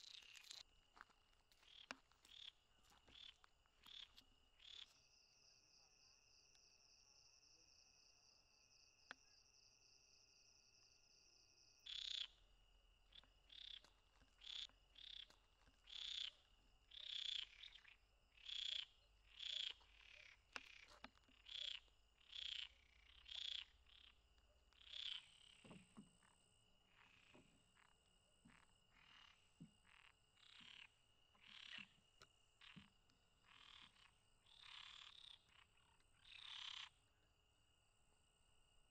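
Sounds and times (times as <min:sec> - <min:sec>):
frogs croaking: 0:00.0 - 0:10.3, 0:11.3 - 0:37.5
insect trill: 0:00.0 - 0:38.9.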